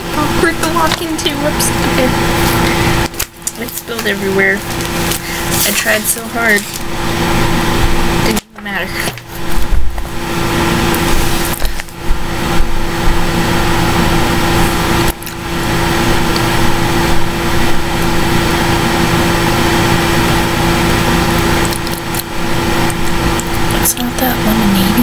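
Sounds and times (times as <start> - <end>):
computer hiss and hum: 0.0 - 25.0.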